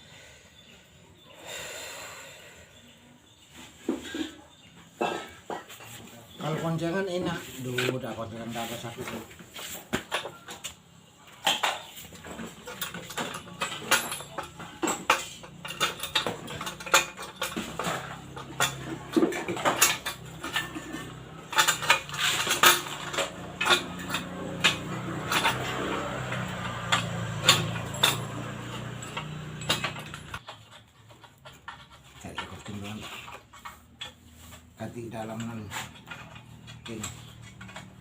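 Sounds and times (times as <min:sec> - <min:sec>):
metal tools clinking and knocking: 0:03.9 - 0:38.0.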